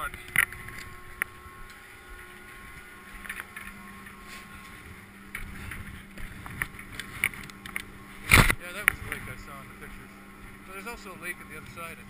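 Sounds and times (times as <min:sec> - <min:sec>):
chairlift mechanical hum: 0:00.0 - 0:12.0.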